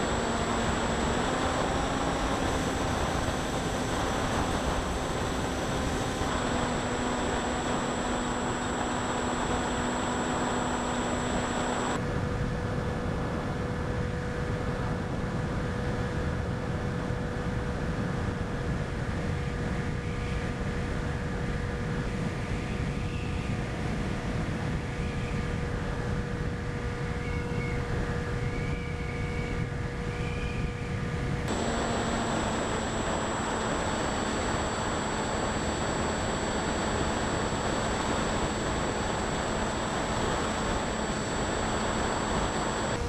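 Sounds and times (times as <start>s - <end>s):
electric motor and propeller whine: 0.0s - 43.0s
wind rush on microphone: 0.0s - 43.0s.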